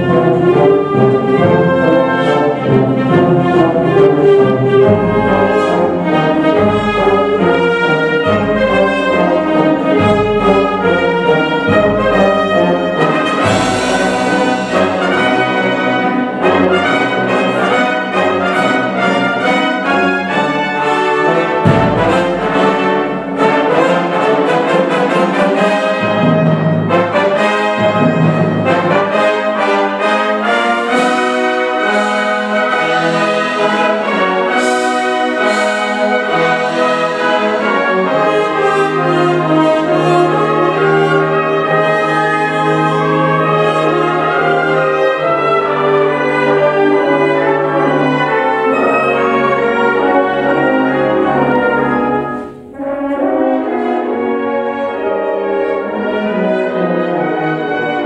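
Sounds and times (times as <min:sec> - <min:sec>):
wind band playing: 0:00.0 - 0:58.0.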